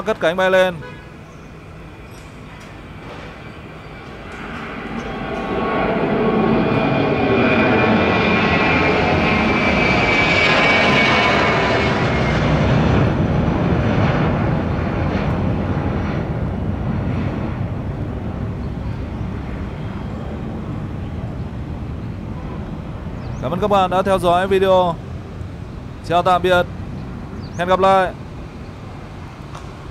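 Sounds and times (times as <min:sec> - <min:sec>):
jet engine roar with high whine: 0:00.0 - 0:29.9.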